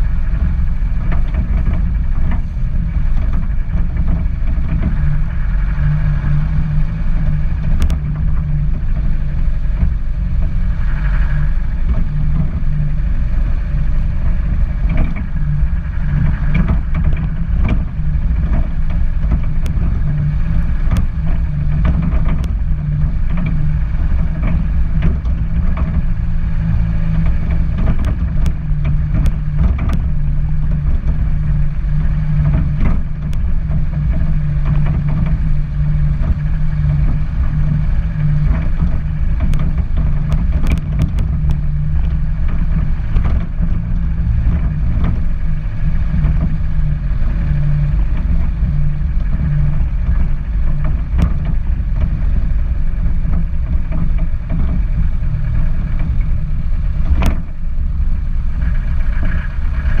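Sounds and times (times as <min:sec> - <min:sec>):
car engine drone: 0:00.0 - 1:00.0
road noise: 0:00.0 - 1:00.0
small knocks and clicks: 0:00.4 - 0:09.1, 0:14.2 - 1:00.0.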